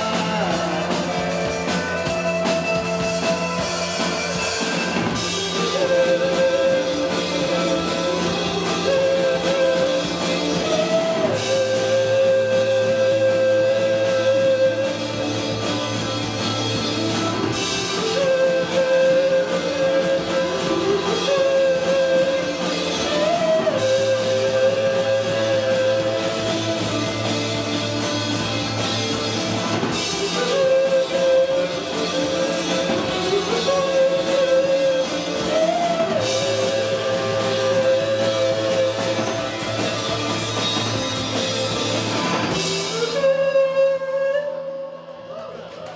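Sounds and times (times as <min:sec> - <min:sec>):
drum kit: 0:00.0 - 0:44.6
bass guitar: 0:00.0 - 0:45.9
electric guitar: 0:00.0 - 0:45.9.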